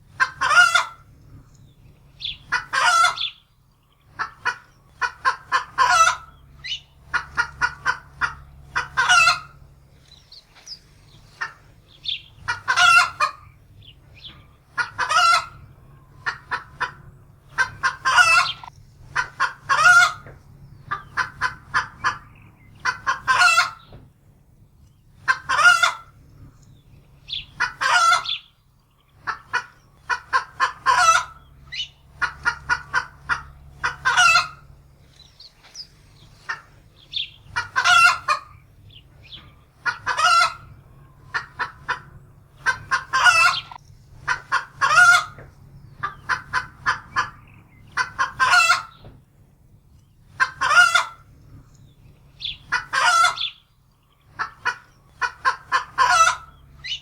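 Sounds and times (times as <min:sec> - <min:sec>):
hen cackling in alarm: 0:00.1 - 0:01.1, 0:02.2 - 0:09.7, 0:11.1 - 0:23.9, 0:25.2 - 0:26.2, 0:27.3 - 0:49.0, 0:50.3 - 0:51.3, 0:52.3 - 0:57.0.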